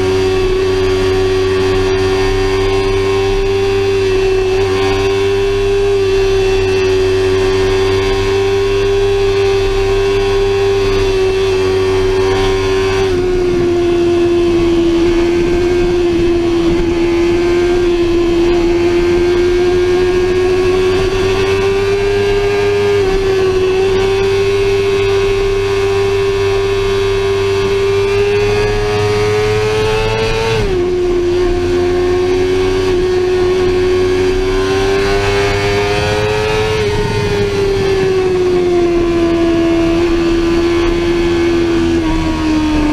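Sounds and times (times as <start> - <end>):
motorcycle engine at high revs: 0.0 - 42.9.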